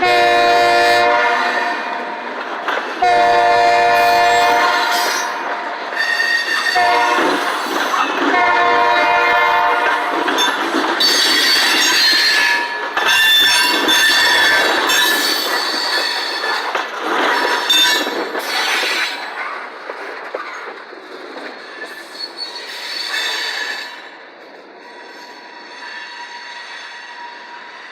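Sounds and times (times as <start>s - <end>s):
rumble of train wheels: 0.0s - 27.9s
train wheels squealing on rails: 3.9s - 8.8s, 9.7s - 27.9s.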